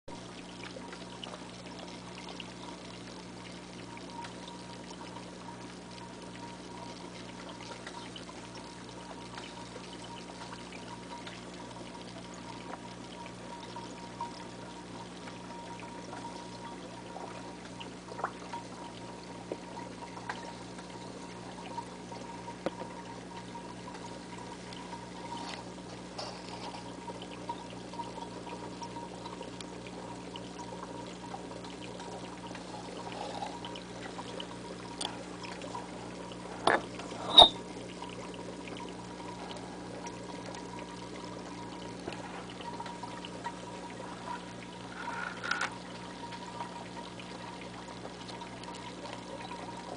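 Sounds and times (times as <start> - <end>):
aquarium filter hum: 0.1 - 49.9
water trickling and splashing: 0.1 - 49.9.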